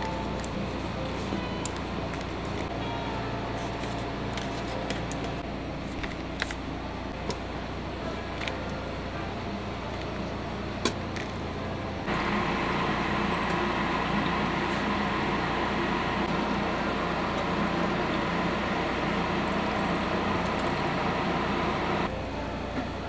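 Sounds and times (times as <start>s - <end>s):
kitchen hum: 0.0s - 23.0s.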